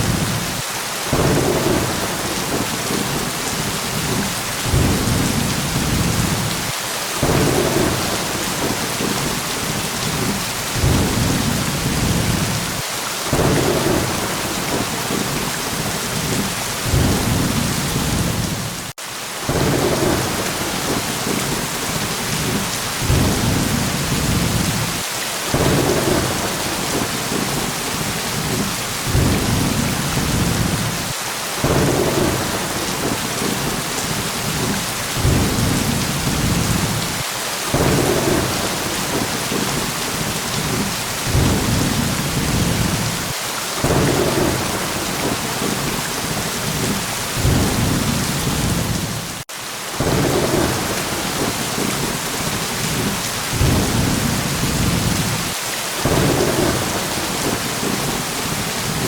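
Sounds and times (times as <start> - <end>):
heavy rain: 0.0 - 59.0
low rumbling thunder: 1.1 - 18.9, 19.5 - 49.4, 50.0 - 52.1, 52.8 - 58.3.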